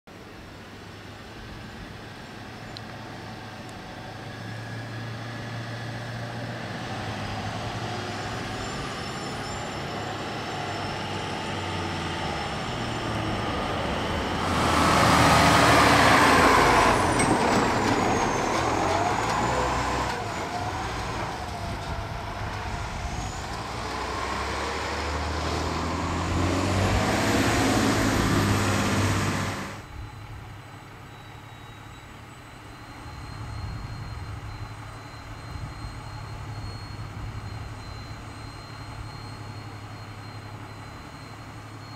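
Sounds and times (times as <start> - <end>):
road noise: 0.1 - 41.9
fire engine passing: 0.2 - 41.9.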